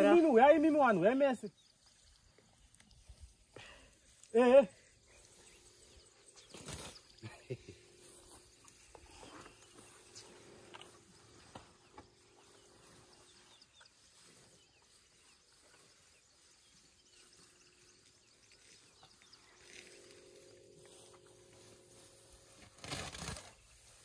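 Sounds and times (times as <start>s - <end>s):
elephants rustling grass: 0.0s - 24.0s.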